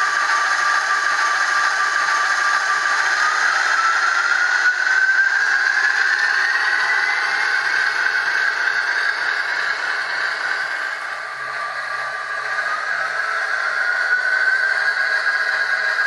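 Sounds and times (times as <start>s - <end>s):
model train diesel engine sound: 0.0s - 16.0s
turbocharger whine: 0.0s - 16.0s.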